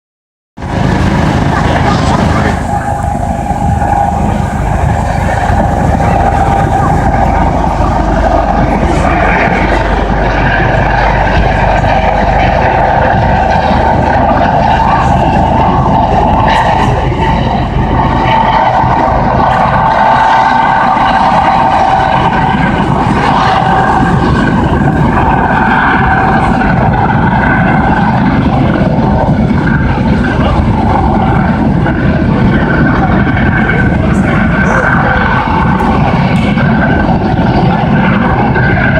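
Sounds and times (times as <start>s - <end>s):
helicopter whine and rumble: 0.6s - 38.9s.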